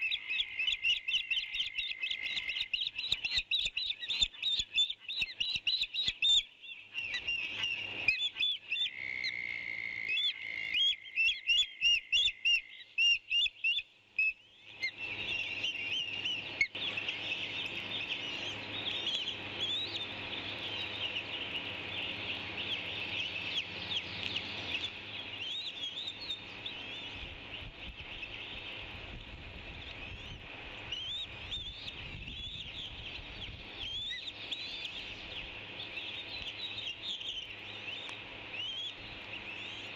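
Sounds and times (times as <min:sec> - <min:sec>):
bird chirping: 0:00.0 - 0:29.1, 0:29.8 - 0:39.9.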